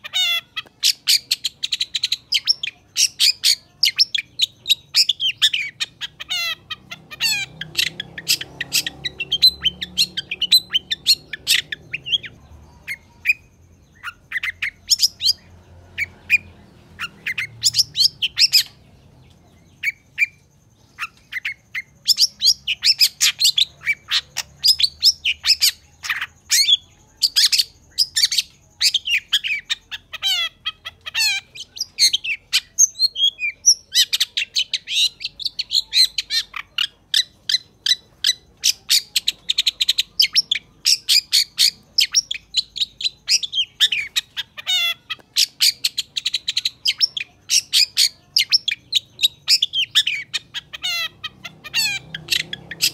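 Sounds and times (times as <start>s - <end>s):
shrike singing: 0.0s - 52.9s.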